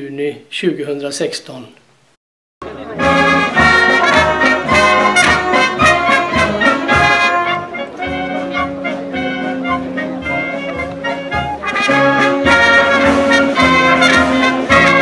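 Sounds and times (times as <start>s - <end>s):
trumpets and trombones playing: 2.7s - 15.0s.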